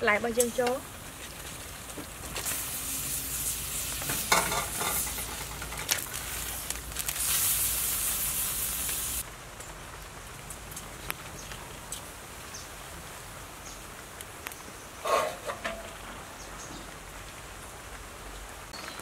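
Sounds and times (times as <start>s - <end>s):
soup boiling with hiss: 0.0s - 18.8s.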